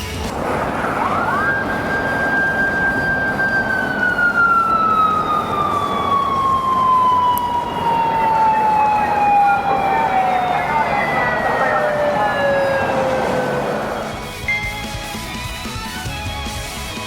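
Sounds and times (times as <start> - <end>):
motorcycle siren wailing: 0.2 - 14.8.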